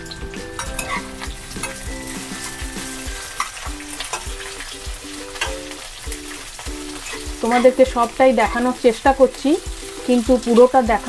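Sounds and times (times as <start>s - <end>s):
spatula stirring: 0.0s - 10.8s
background music with beat: 0.0s - 11.0s
vegetables sizzling in oil: 0.0s - 11.0s.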